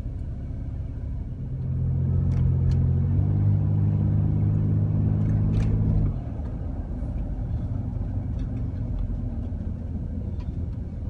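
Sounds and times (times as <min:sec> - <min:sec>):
van engine pulling away: 0:00.0 - 0:11.0.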